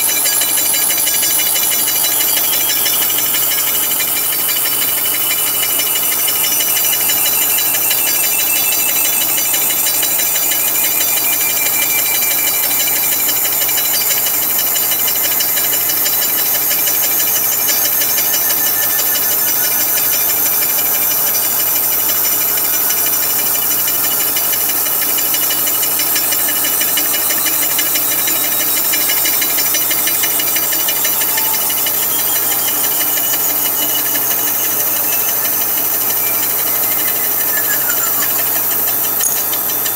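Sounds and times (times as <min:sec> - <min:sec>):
milling machine saw cutting metal: 0:00.0 - 0:39.9.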